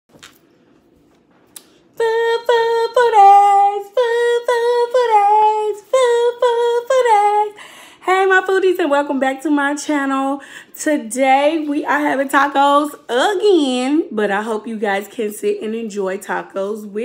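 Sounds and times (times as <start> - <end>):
woman singing unaccompanied: 2.0 - 17.0.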